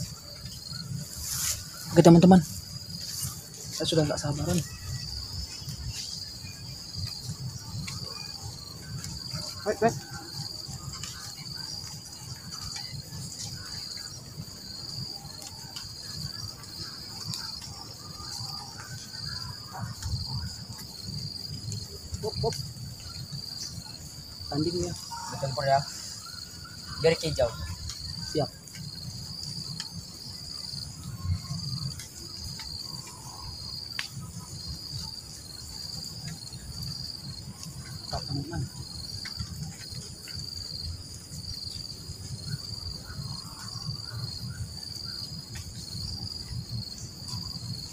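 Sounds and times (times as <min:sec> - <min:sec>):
crickets trilling: 0:00.0 - 0:47.9
insects shrilling: 0:00.0 - 0:47.9.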